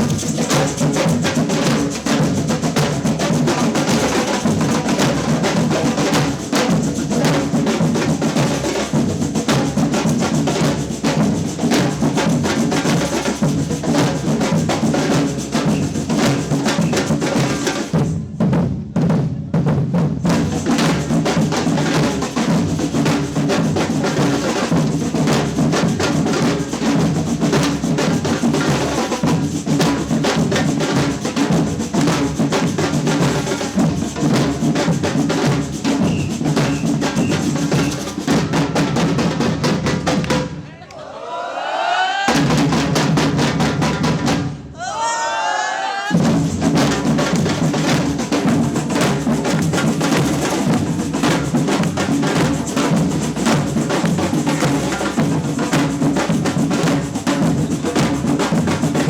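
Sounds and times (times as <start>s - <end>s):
samba percussion band: 0.0s - 40.8s, 42.3s - 45.0s, 46.1s - 59.0s.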